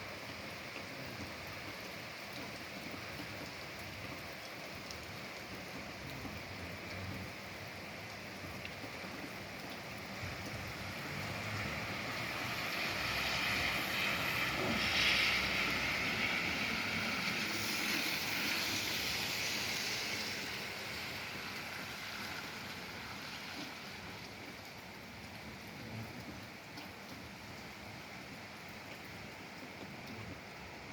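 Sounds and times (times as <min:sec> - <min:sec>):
rain hiss: 0:00.0 - 0:30.9.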